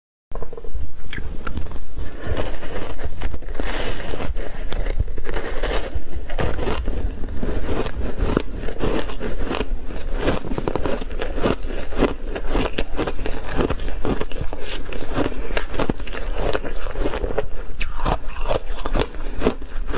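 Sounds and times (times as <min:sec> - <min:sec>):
crunching frozen ice block: 0:01.6 - 0:19.9.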